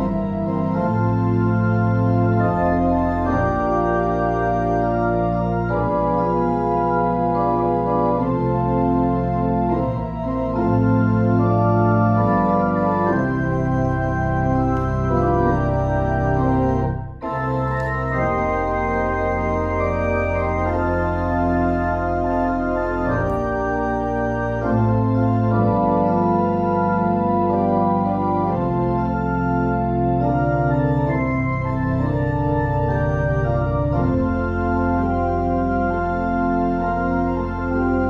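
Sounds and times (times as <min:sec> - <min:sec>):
pipe organ chords: 0:00.0 - 0:38.0.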